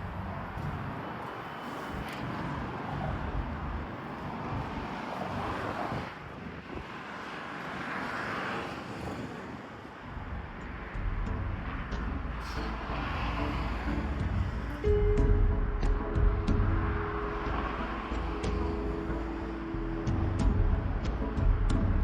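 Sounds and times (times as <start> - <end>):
road traffic: 0.0 - 22.0
wind gusting over microphone: 0.0 - 22.0.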